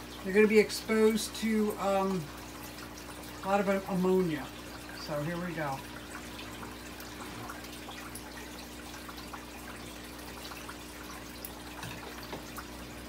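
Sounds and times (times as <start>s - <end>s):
aquarium water trickling: 0.0s - 13.0s.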